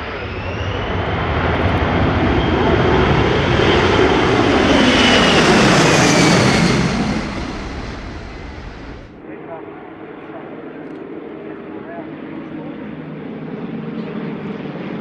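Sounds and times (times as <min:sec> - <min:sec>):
jet aircraft roar and whine: 0:00.0 - 0:15.0.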